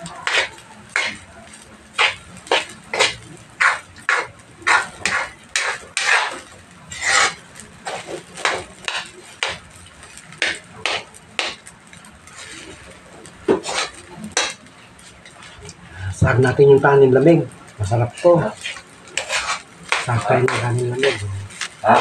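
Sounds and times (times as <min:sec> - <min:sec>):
metal spatula scraping a wok: 0:00.0 - 0:15.7, 0:18.1 - 0:22.0.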